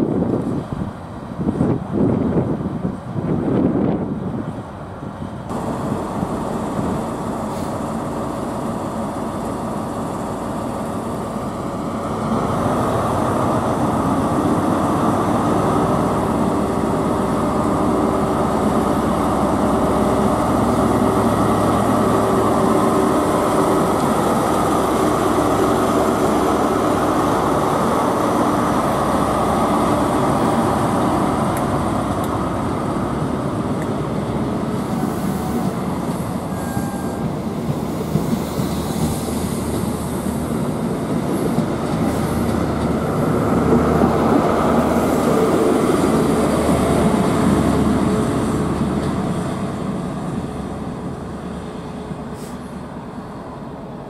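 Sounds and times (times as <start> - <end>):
diesel train engine working hard: 0.0 - 54.0
train wheels rumbling on track: 0.0 - 54.0.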